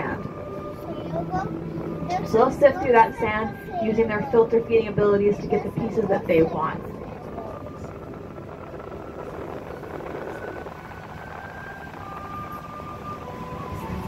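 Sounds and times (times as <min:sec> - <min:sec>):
faint thin whining tones: 0:00.0 - 0:14.0
mechanical machinery drone: 0:00.0 - 0:14.0.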